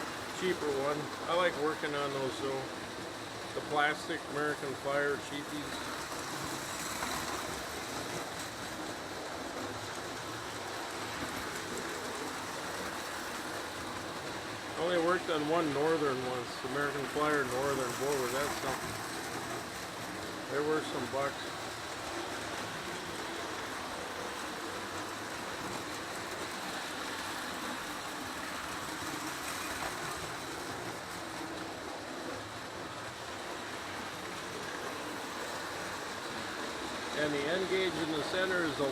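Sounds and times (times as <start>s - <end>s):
model trains whirring on track: 0.0s - 38.9s.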